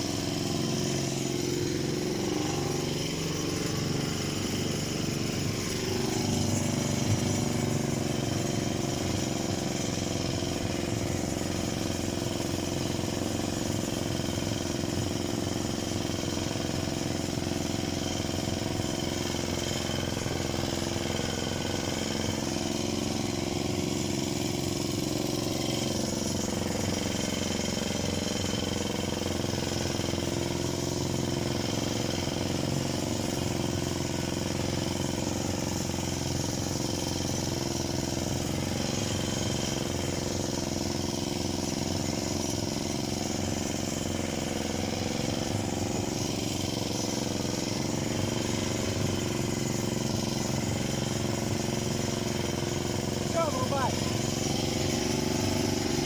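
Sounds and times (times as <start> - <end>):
chainsaw running: 0.0 - 56.0.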